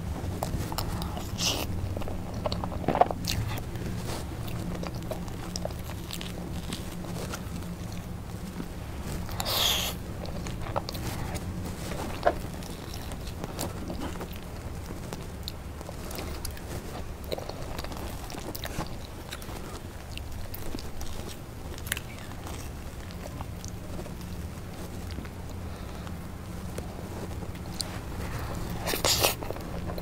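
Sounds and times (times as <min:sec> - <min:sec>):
steady low hum: 0:00.0 - 0:30.0
wet chewing and mouth sounds: 0:00.0 - 0:30.0.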